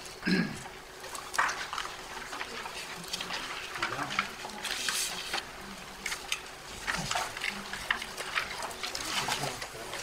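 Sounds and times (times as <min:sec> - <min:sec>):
papers rustling: 0:01.0 - 0:10.0.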